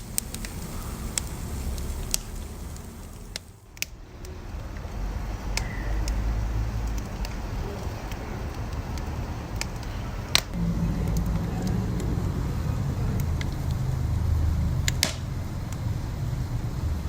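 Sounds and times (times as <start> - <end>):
low rumble: 0.0 - 17.0
wood fire crackling and popping: 0.0 - 17.0.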